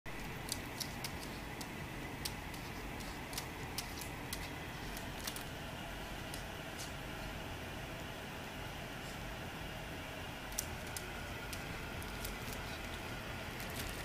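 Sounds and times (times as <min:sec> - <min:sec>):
steady hiss: 0:00.1 - 0:14.0.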